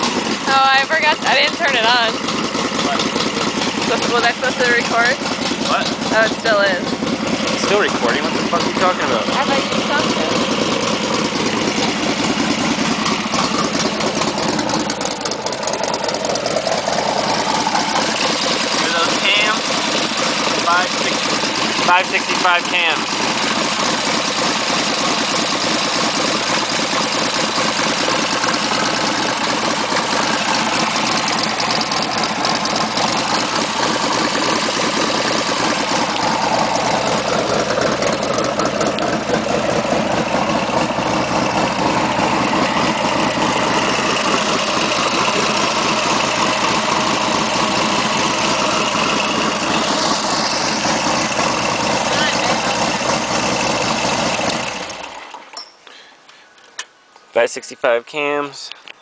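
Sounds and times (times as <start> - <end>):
motorcycle engine idling: 0.0 - 56.8.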